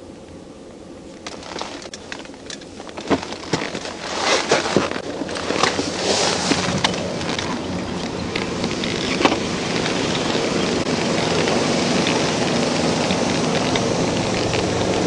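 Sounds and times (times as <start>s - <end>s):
microphone handling rustle: 1.1s - 15.0s.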